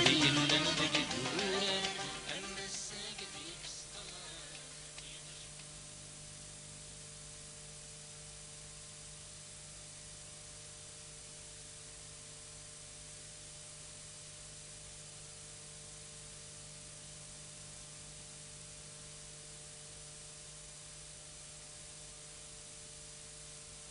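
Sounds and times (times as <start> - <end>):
low electrical hum: 0.0 - 23.9
tape hiss: 0.0 - 23.9.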